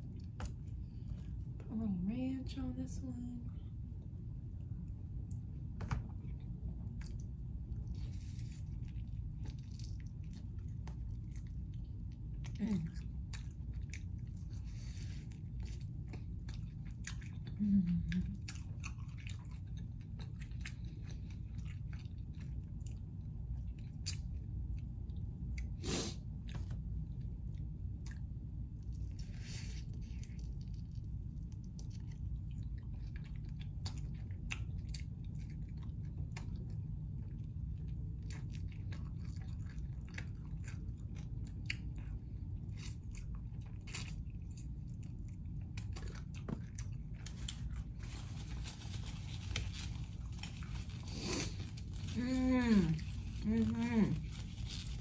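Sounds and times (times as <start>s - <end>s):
low hum: 0.0s - 55.0s
person chewing and crunching: 4.6s - 55.0s.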